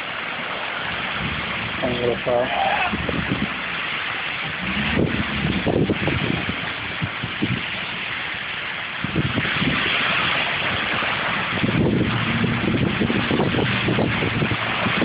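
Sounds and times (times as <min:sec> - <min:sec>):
low engine hum: 0:00.0 - 0:15.0
tyres hissing through water: 0:00.0 - 0:15.0.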